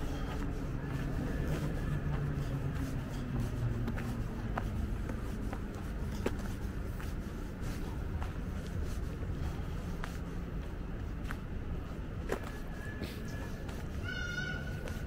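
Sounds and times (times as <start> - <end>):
distant traffic hum: 0.0 - 15.0
footsteps on pavement: 0.0 - 15.0.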